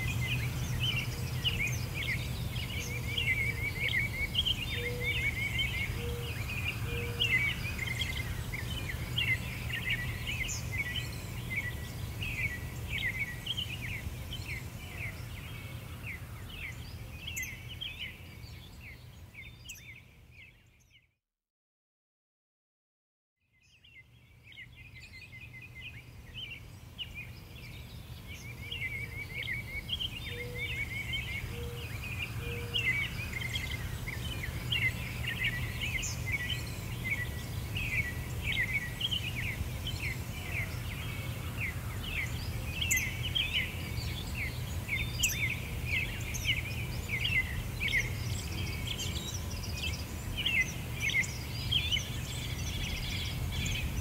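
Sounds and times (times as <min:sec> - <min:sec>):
small birds chirping and trilling: 0:00.0 - 0:21.1, 0:23.6 - 0:54.0.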